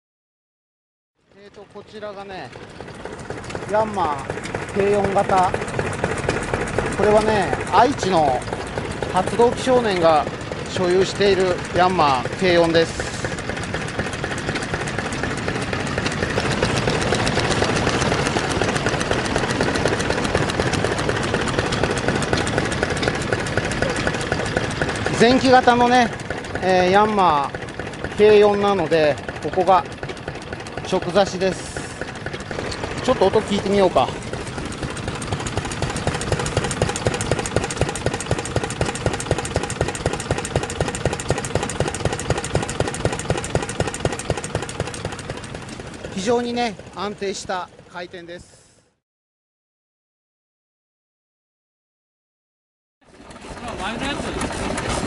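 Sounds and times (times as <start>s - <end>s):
diesel stationary engine running: 1.3s - 49.0s, 53.0s - 55.0s.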